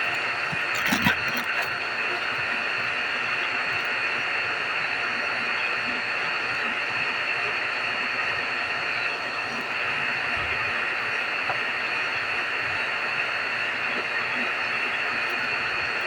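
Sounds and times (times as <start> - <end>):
vacuum pump hissing: 0.0 - 16.0.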